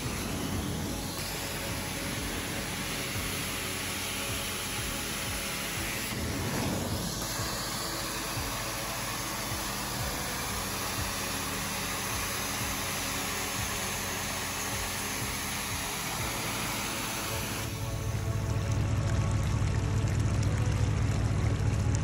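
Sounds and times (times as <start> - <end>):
carpet cleaning wand suction hiss: 0.0 - 18.3
extraction machine hum: 0.0 - 22.0.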